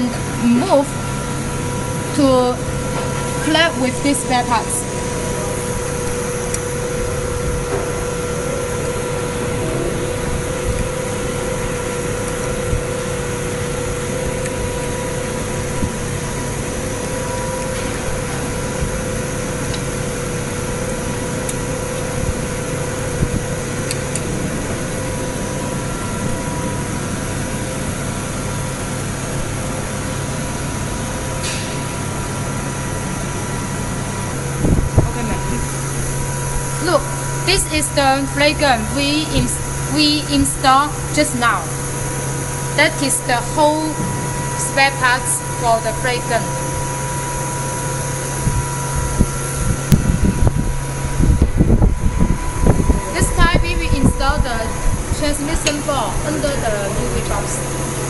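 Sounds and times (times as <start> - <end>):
factory machinery humming: 0.0 - 58.0.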